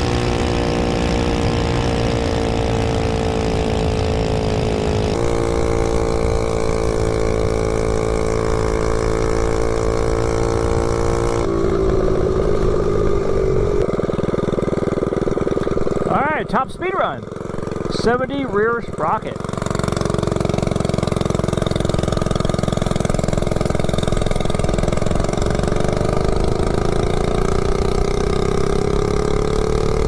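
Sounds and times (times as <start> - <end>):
mini bike engine running: 0.0 - 30.0.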